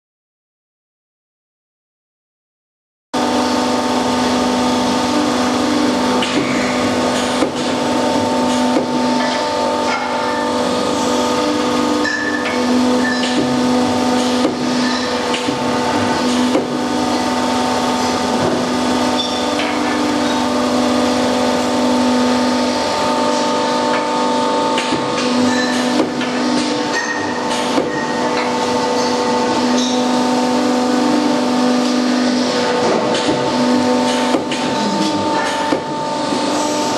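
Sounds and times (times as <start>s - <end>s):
machinery electric hum: 3.2s - 36.9s.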